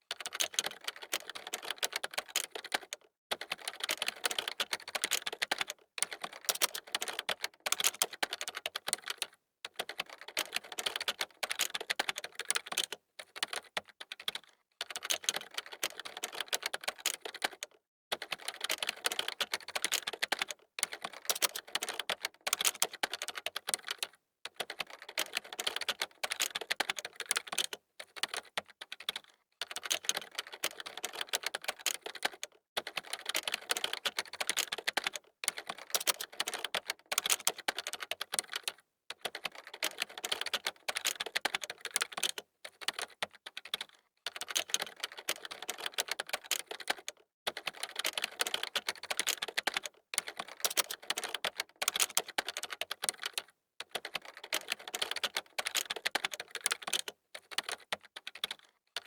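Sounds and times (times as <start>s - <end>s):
fast typing on keyboard: 0.1s - 59.0s.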